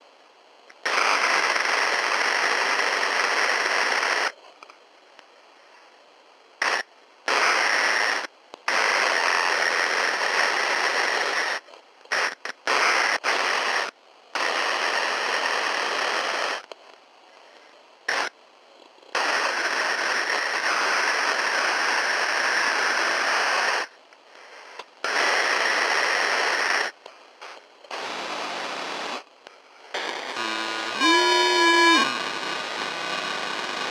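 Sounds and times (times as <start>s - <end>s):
radio static hiss: 0.0s - 33.9s.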